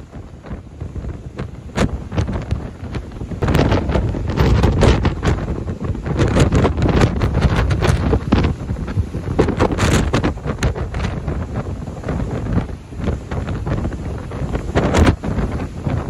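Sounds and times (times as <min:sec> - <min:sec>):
heavy surf breaking: 0:00.0 - 0:16.0
wind buffeting microphone: 0:00.0 - 0:16.0.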